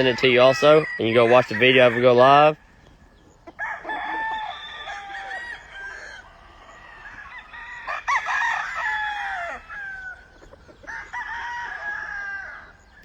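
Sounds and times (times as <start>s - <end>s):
roosters crowing: 0.0s - 13.0s.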